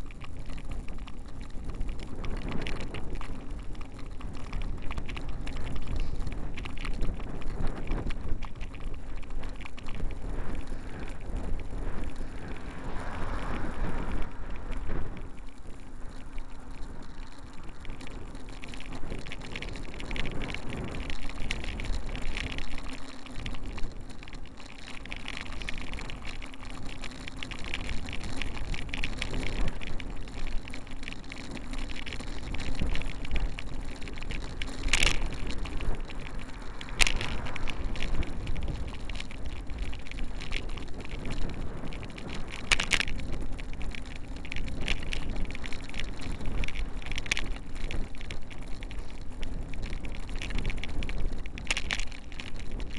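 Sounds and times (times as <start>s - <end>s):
car engine and road noise: 0.0s - 52.9s.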